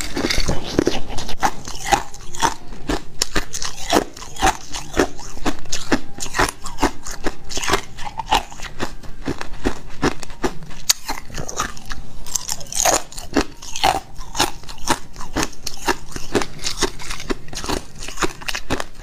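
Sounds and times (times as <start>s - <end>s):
ice chips being chewed: 0.0s - 19.0s.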